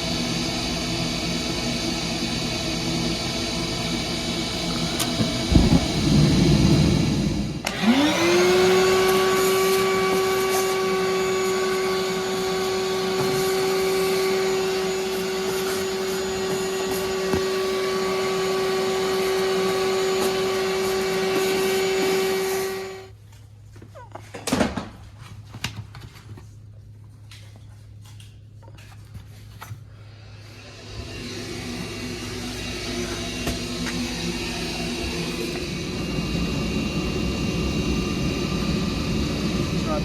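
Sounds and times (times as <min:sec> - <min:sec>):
furnace inducer motor whine: 0:00.0 - 0:23.7, 0:26.9 - 0:40.0.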